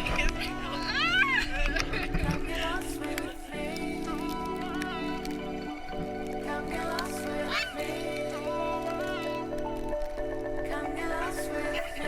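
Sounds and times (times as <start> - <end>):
synth chords with melody: 0.0 - 12.0.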